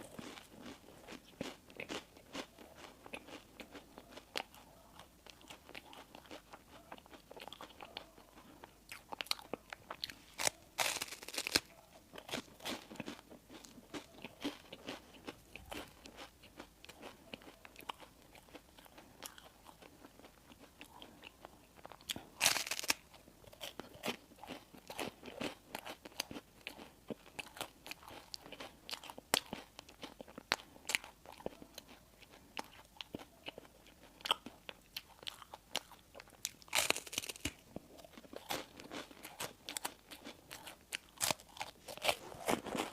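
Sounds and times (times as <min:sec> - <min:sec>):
chewing crispy bread: 0:00.0 - 0:42.9.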